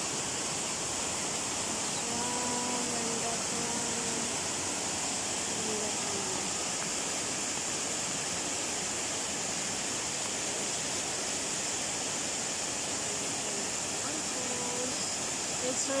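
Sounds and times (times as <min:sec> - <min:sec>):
waterfall over rocks: 0:00.0 - 0:16.0.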